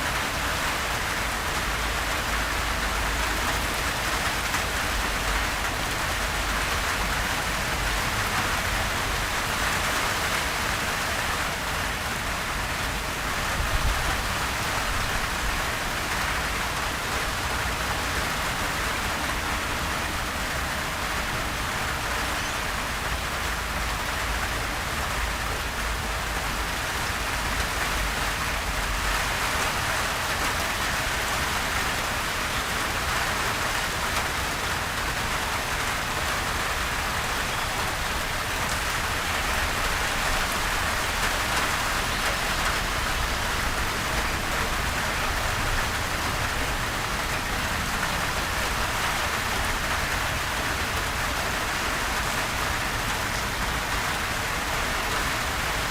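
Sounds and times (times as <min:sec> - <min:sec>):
gentle rain falling: 0:00.0 - 0:55.9.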